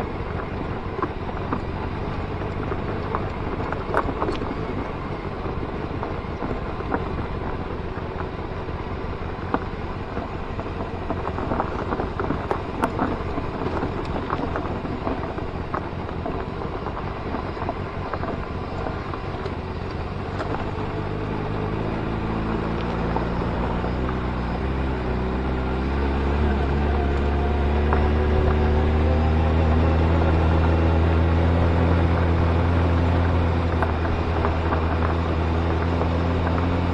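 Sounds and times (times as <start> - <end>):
motorcycle running: 0.0 - 36.9.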